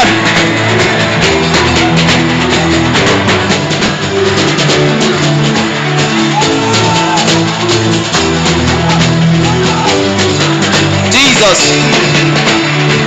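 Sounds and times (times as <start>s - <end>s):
band playing guitar and drums: 0.0s - 13.0s.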